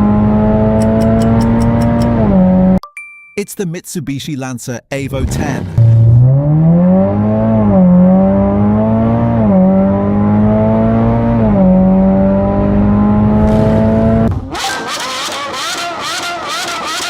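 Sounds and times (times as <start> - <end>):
car engine at high revs: 0.0 - 2.8, 5.8 - 17.0.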